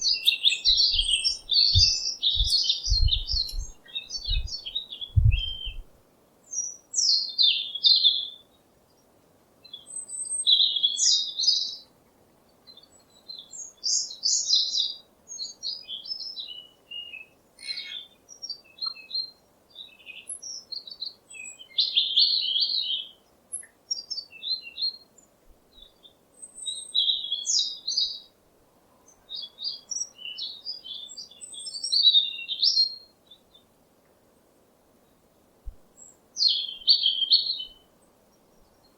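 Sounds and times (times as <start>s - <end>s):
songbird chirps and trills: 0.0s - 38.9s.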